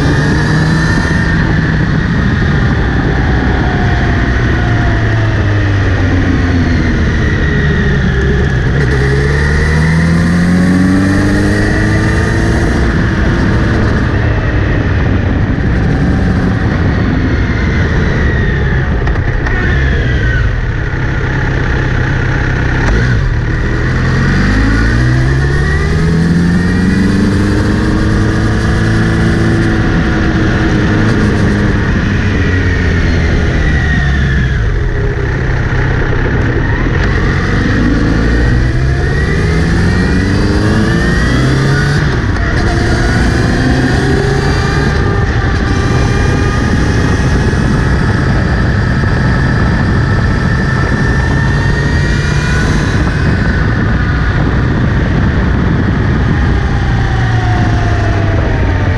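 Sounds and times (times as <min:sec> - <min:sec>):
motorcycle engine accelerating: 0:00.0 - 0:58.9
whirring from motorcycle drivetrain: 0:00.0 - 0:58.9.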